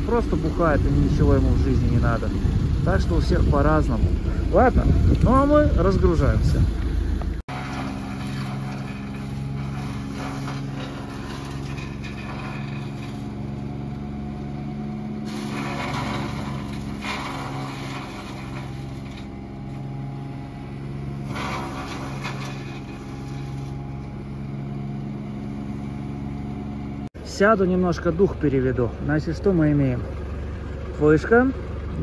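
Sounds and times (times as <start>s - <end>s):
wood chipper engine running: 0.0s - 32.0s.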